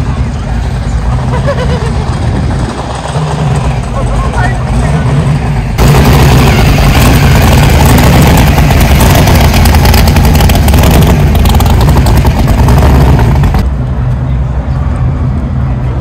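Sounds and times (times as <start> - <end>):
hot rod engine running loud: 0.0 - 13.8.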